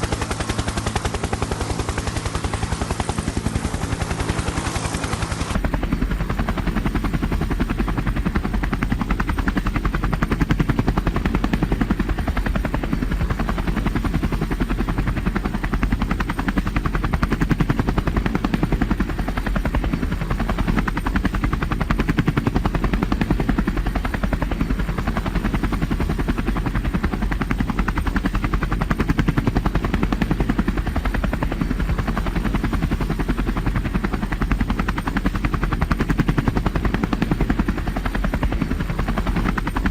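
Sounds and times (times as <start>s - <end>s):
helicopter rotor chopping: 0.0s - 39.9s.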